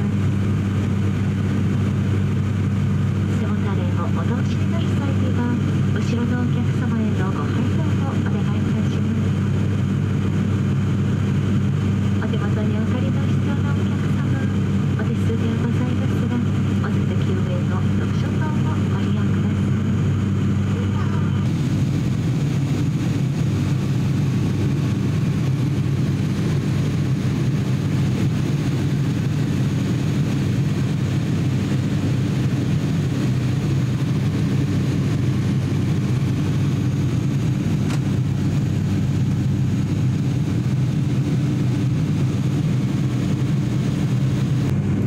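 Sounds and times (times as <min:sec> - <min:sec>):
turboprop engine drone in cabin: 0:00.0 - 0:45.0.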